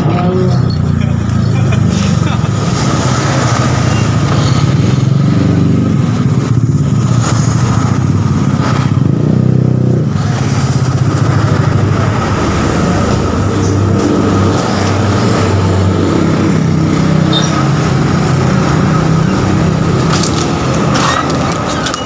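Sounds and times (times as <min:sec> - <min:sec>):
scooter engine running and revving: 0:00.0 - 0:22.0.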